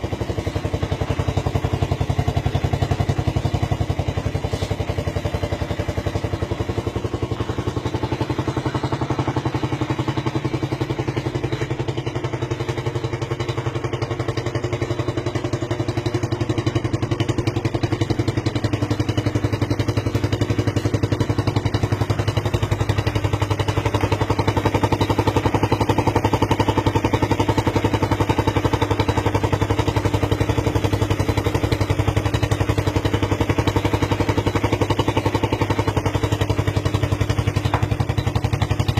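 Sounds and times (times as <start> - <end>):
motorcycle engine idling fast: 0.0 - 38.9.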